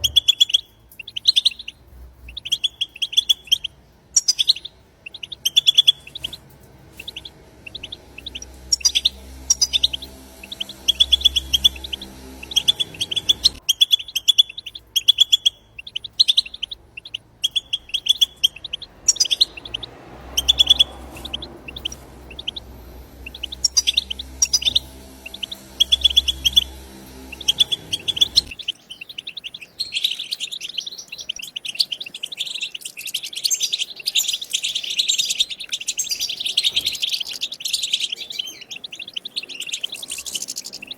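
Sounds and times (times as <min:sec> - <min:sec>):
goldfinches twittering: 0:02.3 - 0:40.9.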